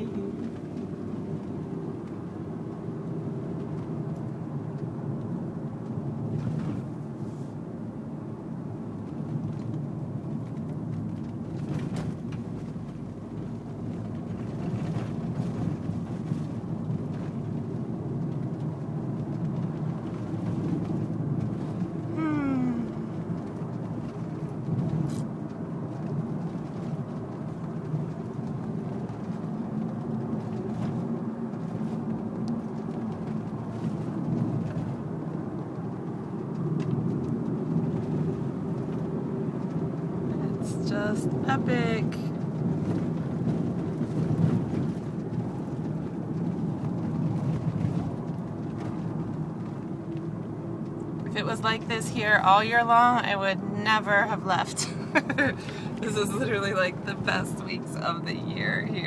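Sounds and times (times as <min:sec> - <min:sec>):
engine and tyre hum: 0:00.0 - 0:59.0.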